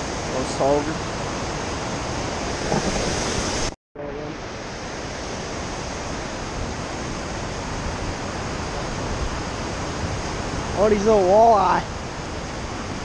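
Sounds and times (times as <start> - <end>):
river water rushing through dam: 0.0 - 3.7, 4.3 - 13.0.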